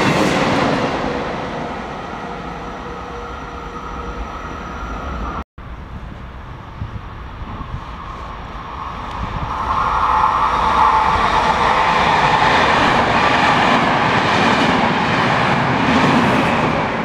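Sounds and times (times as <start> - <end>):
train passing with wheel noise: 0.0 - 17.0.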